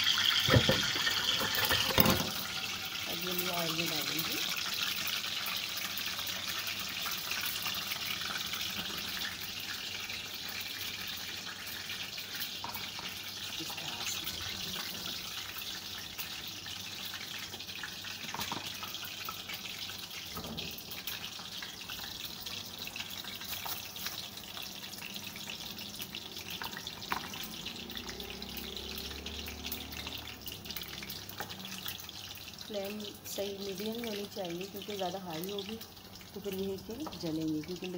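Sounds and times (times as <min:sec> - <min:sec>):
food deep-frying in oil: 0:00.0 - 0:37.9.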